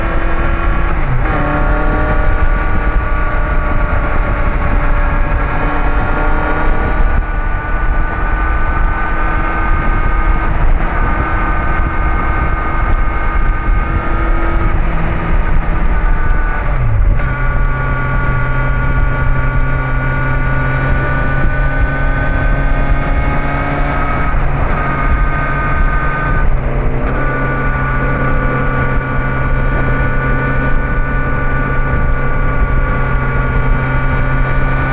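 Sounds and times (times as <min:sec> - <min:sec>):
motorcycle engine running: 0:00.0 - 0:34.9
wind and road noise: 0:00.0 - 0:34.9.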